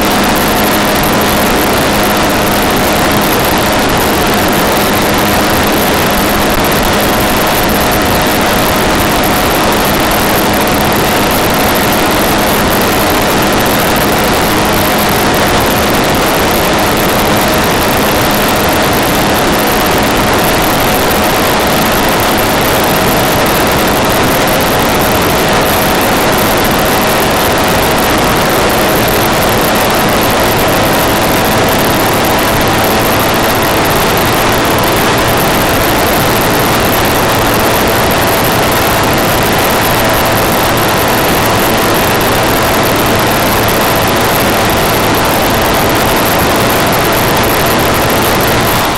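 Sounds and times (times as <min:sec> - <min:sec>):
car engine drone: 0:00.0 - 0:48.9
tyre and road noise: 0:00.0 - 0:48.9.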